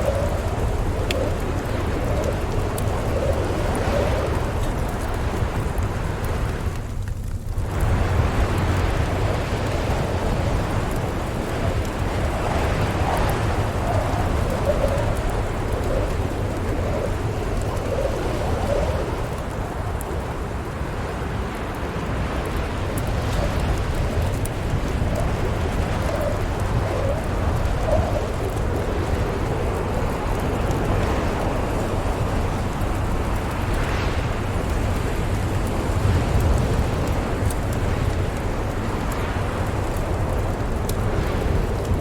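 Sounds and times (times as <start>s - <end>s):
rumbling howling wind: 0.0s - 42.0s
wood fire crackling: 0.0s - 42.0s.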